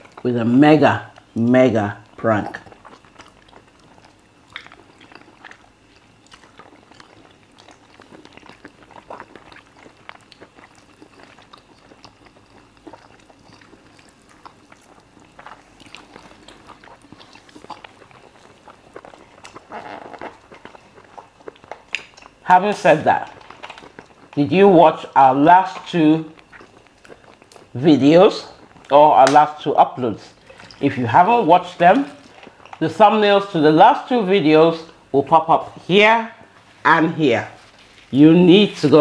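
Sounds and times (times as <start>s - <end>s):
people chewing food: 0.0s - 39.0s.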